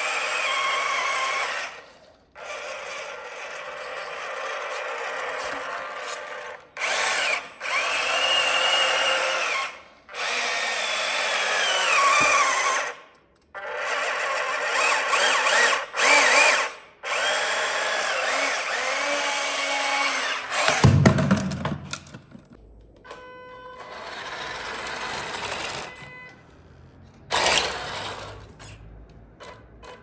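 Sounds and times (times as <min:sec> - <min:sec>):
small electric motors whining: 0:00.0 - 0:20.8, 0:23.8 - 0:26.3, 0:27.3 - 0:28.8.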